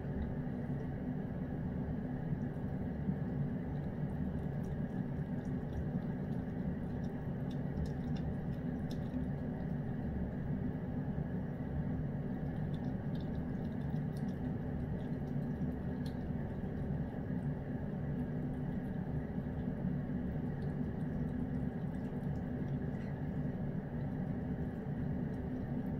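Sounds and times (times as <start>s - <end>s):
cat chewing and licking: 2.1s - 25.9s.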